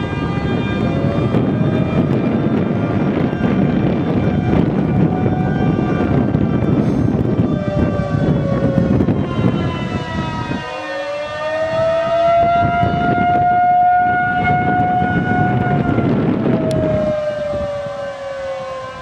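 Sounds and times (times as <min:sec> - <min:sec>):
tornado warning siren wailing: 0:00.0 - 0:19.0
wind noise on microphone: 0:00.0 - 0:19.0.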